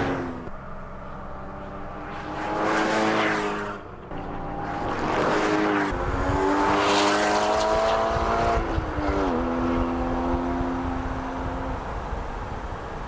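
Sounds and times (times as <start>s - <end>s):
sports car engine at full throttle: 0.0s - 13.0s.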